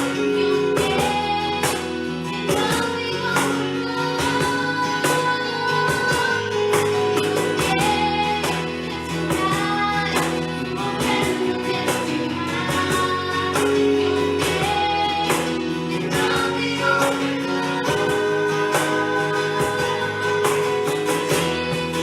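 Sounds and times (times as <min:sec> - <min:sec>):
worship band music with guitar: 0:00.0 - 0:22.0.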